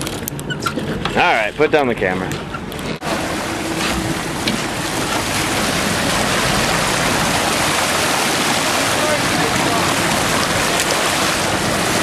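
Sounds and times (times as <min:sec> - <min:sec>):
sea noise: 0:00.0 - 0:12.0.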